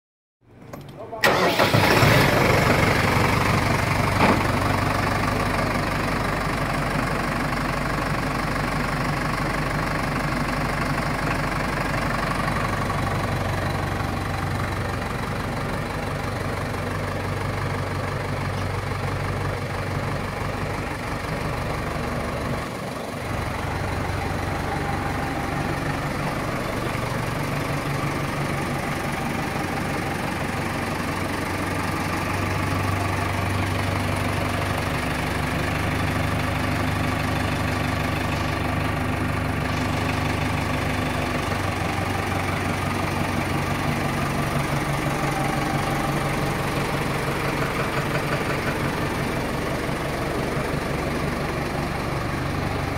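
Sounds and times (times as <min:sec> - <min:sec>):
tractor diesel engine idling: 0:00.5 - 0:52.9.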